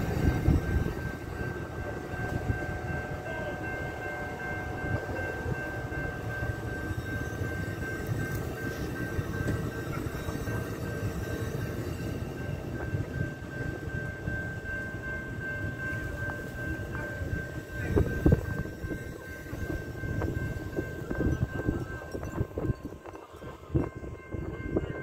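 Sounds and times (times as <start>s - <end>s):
train cars clanking: 0.0s - 25.0s
train wheels rumbling on rail: 0.0s - 25.0s.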